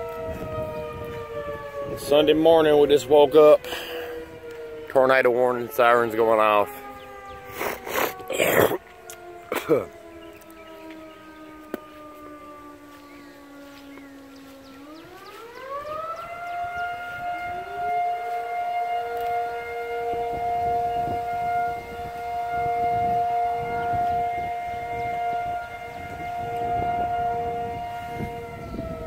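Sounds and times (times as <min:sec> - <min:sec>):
siren wailing: 0:00.0 - 0:29.0.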